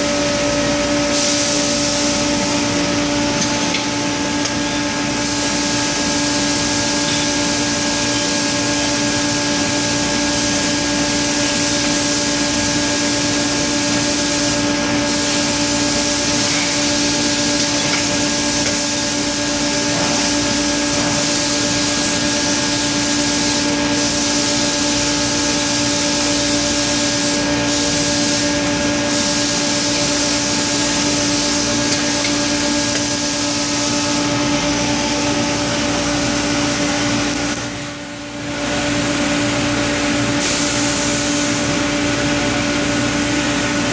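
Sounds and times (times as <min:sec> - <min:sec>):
machine hum: 0:00.0 - 0:43.9.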